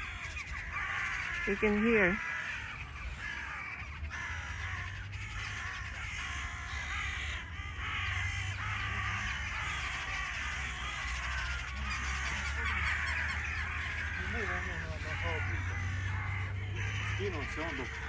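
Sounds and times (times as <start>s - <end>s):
flock of birds screaming: 0.0s - 18.0s.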